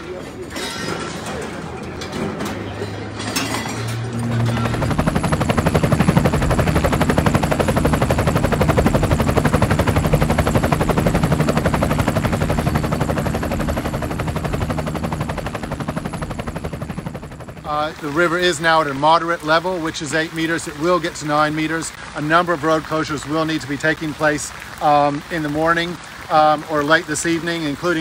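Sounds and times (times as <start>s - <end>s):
helicopter rotor chopping: 1.2s - 28.0s.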